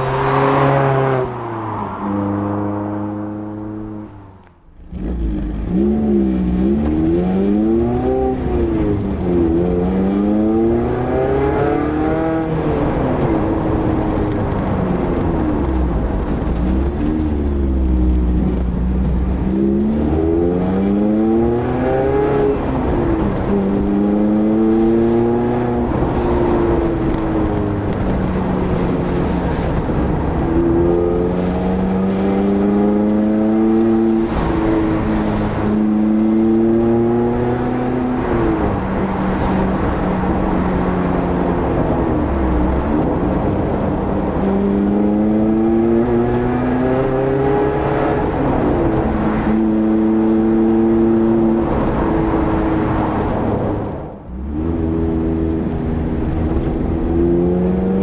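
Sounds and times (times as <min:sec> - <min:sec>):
car engine through sports exhaust: 0:00.0 - 0:58.0
road rumble: 0:00.0 - 0:58.0.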